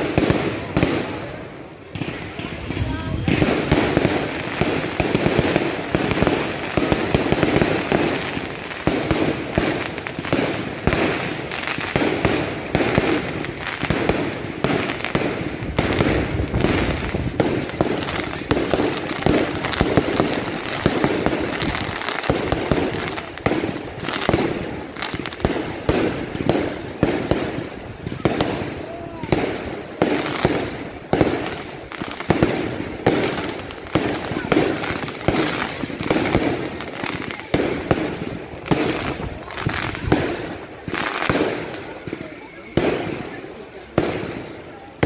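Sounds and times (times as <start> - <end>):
fireworks bursting and crackling: 0.0 - 45.0.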